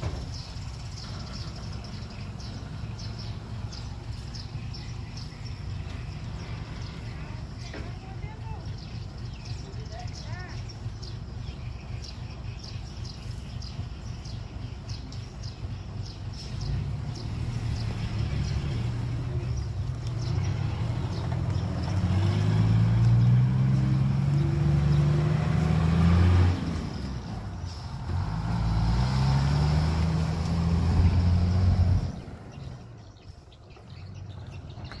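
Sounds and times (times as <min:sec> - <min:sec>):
truck diesel engine under load: 0:00.0 - 0:35.0.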